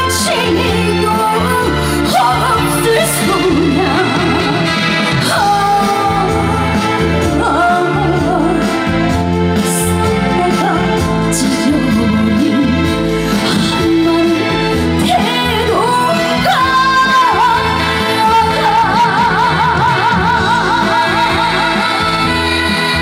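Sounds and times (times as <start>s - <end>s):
band accompaniment: 0.0s - 23.0s
bass line: 0.0s - 23.0s
woman singing with vibrato: 0.0s - 23.0s.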